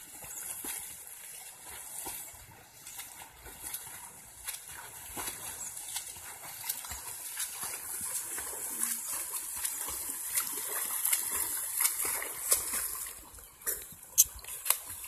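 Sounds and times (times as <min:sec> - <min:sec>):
rushing river water: 0:00.0 - 0:15.0
swimming strokes splashing: 0:00.0 - 0:15.0.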